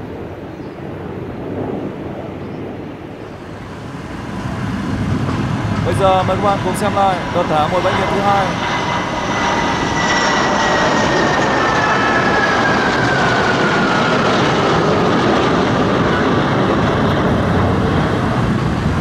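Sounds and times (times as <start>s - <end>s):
fighter jets flying past: 0.0s - 19.0s.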